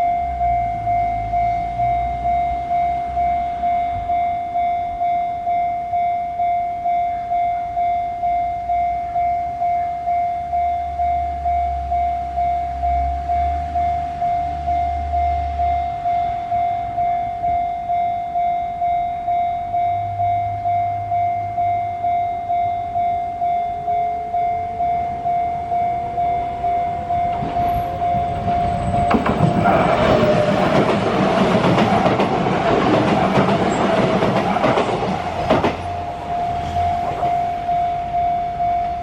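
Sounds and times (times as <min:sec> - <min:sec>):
train passing with wheel clicks: 0:00.0 - 0:39.0.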